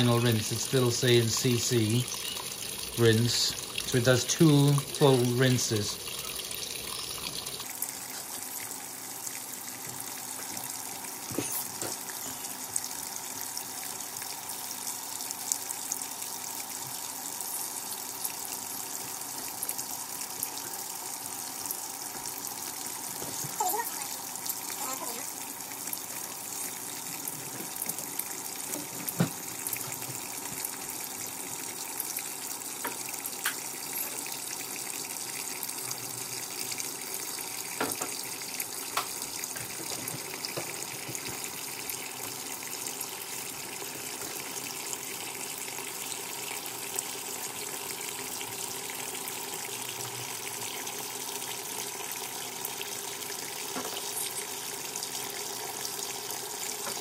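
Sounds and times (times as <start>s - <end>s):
water running into washing machine: 0.0s - 57.0s.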